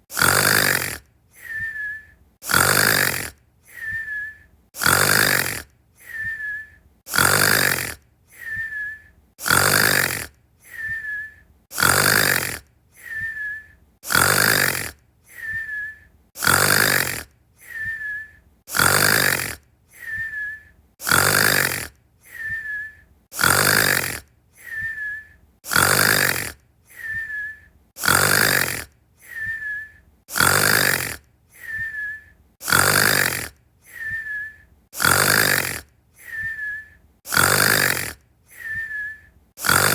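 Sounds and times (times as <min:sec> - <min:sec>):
person snoring: 0:00.1 - 0:01.8, 0:02.4 - 0:04.0, 0:04.8 - 0:06.5, 0:07.1 - 0:15.8, 0:16.4 - 0:22.6, 0:23.4 - 0:25.0, 0:25.7 - 0:27.3, 0:28.0 - 0:29.6, 0:30.3 - 0:36.7, 0:37.3 - 0:38.9, 0:39.6 - 0:39.9
whistling breath: 0:01.3 - 0:17.0, 0:17.6 - 0:39.9.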